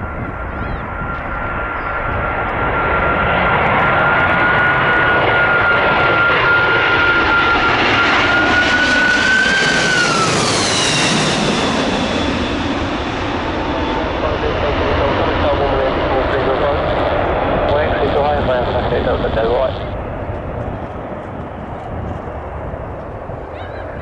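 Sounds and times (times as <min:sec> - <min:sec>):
jet engine high whine: 0:00.0 - 0:24.0
jet engines rushing rumble: 0:00.0 - 0:24.0.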